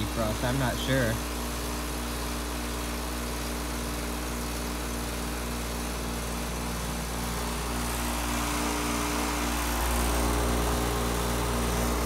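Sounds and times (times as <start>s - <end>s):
heat pump compressor hum: 0.0s - 12.0s.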